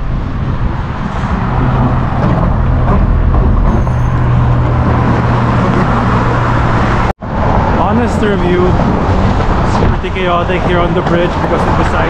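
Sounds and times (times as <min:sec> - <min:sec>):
freeway traffic rushing: 0:00.0 - 0:12.0.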